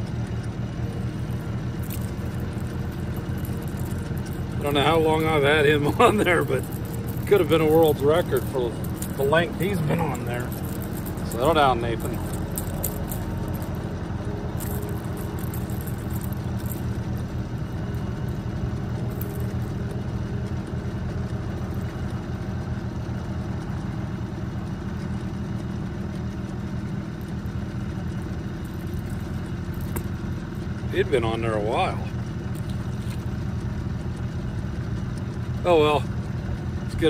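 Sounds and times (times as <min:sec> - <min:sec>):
outboard motor droning: 0:00.0 - 0:37.0.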